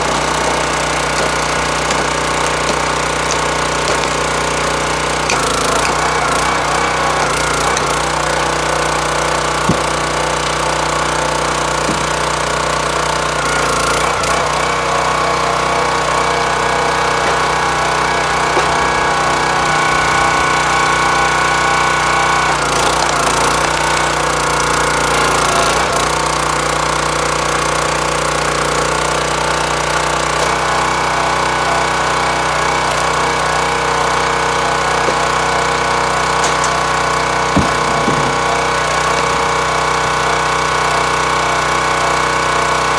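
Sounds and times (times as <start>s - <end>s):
log splitter engine running: 0.0s - 42.9s.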